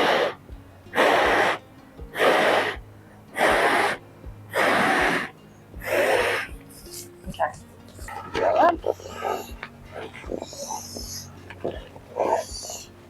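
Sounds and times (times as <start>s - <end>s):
air pump rushes: 0.0s - 2.8s, 3.4s - 7.4s, 8.8s - 12.9s.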